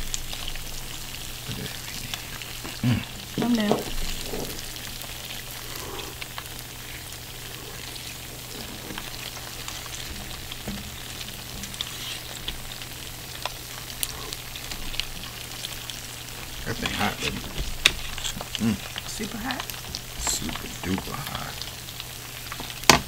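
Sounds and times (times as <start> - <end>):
cheese sizzling on hot plate: 0.0 - 23.0.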